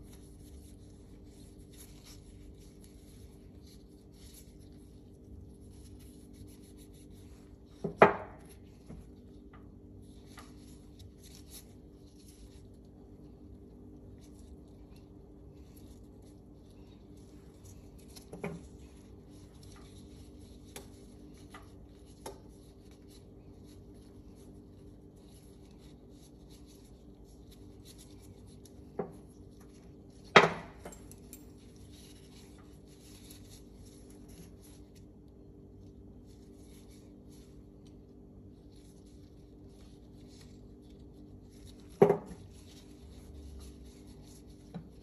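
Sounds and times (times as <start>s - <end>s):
gloves rustling: 0.0s - 45.0s.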